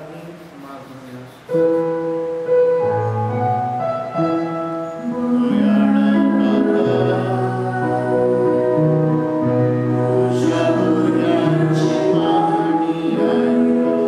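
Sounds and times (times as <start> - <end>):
slow church music on keyboard: 0.0 - 14.0.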